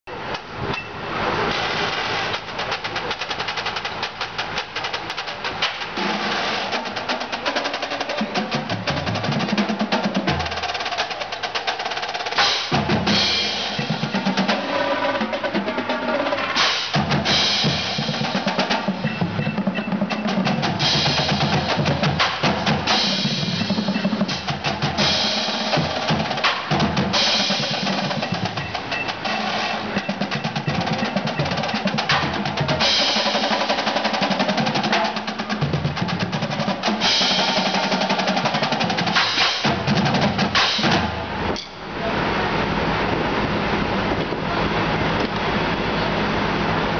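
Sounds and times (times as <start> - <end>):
marching bass drums: 1.4 - 41.6
snare drum patterns and rolls: 1.4 - 41.7.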